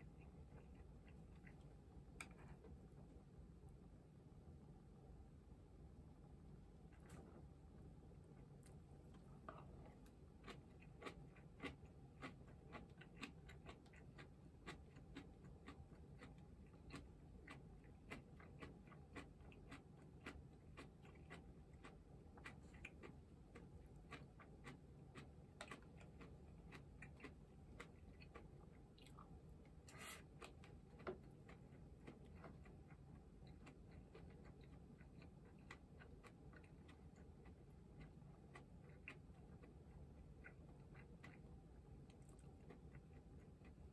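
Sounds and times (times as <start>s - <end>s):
crunchy chewing: 0.0s - 2.9s, 8.2s - 43.9s
low room hum: 0.0s - 43.9s.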